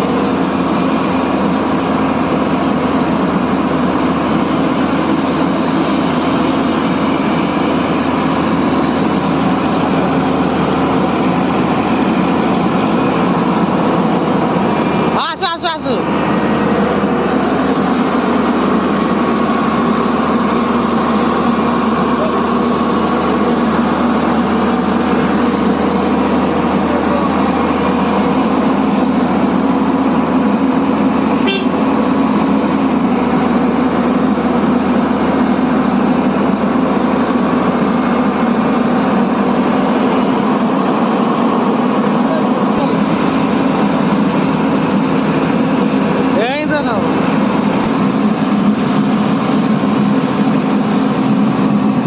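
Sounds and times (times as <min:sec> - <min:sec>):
diesel engine running steadily: 0:00.0 - 0:52.0.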